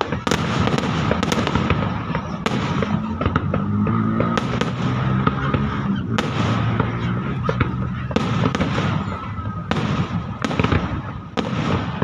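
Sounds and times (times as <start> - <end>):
firework bangs and cracks: 0.0 - 12.0
rumble of bursting fireworks: 0.0 - 12.0.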